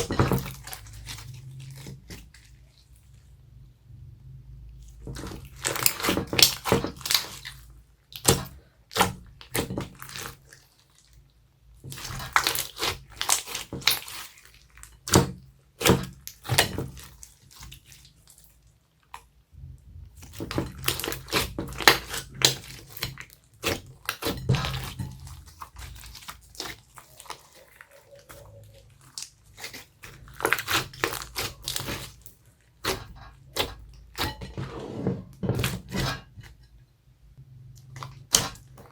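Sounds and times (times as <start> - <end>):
slime squelching: 0.0 - 36.8, 37.4 - 38.9.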